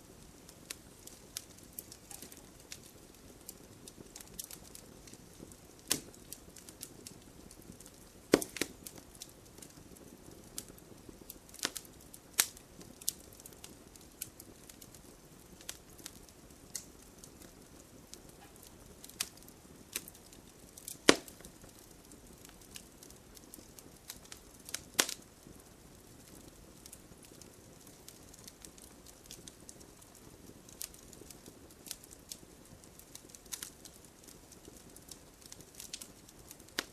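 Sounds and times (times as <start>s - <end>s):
campfire hissing and crackling: 0.0s - 36.9s
loud snaps of fire: 0.0s - 36.9s.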